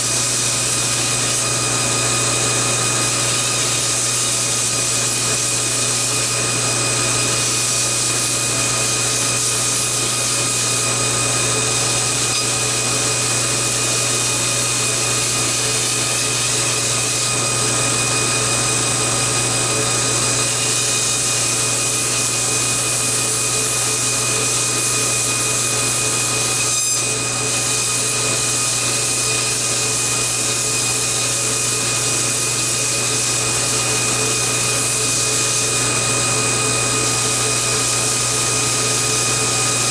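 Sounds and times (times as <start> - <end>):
belt grinder motor hum and whine: 0.0 - 39.9.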